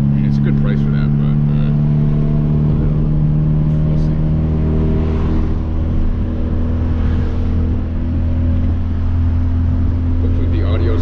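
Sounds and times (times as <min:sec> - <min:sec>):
car engine and exhaust droning: 0:00.0 - 0:11.0
road and wind noise: 0:00.0 - 0:11.0.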